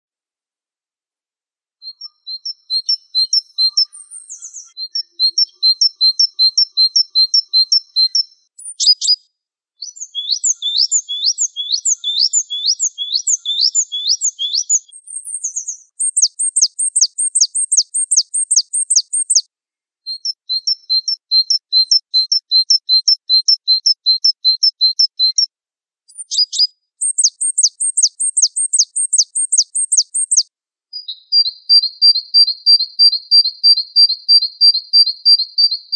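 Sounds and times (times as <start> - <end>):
songbird singing: 1.8 - 19.5, 20.1 - 25.5, 26.1 - 35.9.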